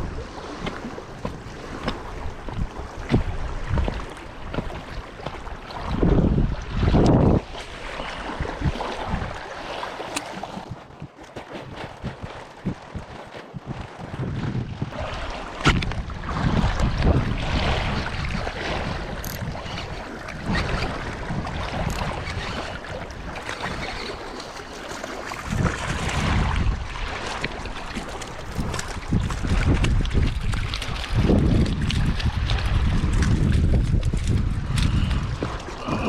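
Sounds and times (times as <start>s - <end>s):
wind buffeting microphone: 0.0s - 24.2s, 25.2s - 36.0s
boat and water noise: 0.0s - 36.0s.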